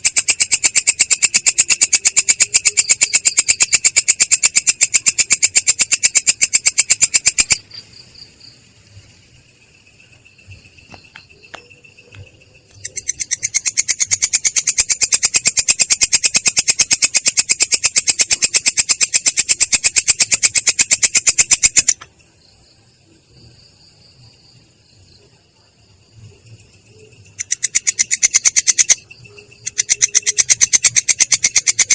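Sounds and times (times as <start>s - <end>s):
insect buzzy pulsing call: 0.0s - 31.9s.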